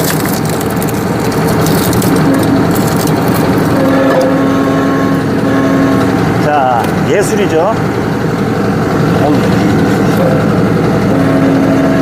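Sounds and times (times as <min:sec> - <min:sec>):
hydraulic log splitter hum: 0:00.0 - 0:12.0
tractor engine running: 0:00.0 - 0:12.0.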